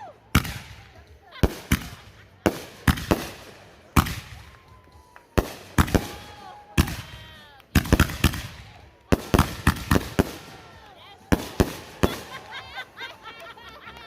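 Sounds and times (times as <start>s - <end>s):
firework cakes banging: 0.2s - 14.0s.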